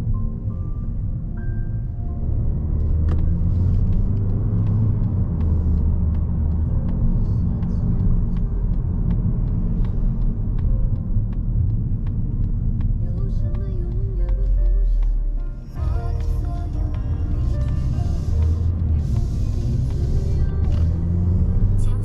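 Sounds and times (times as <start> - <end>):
engine and tyres rumbling: 0.0 - 22.0.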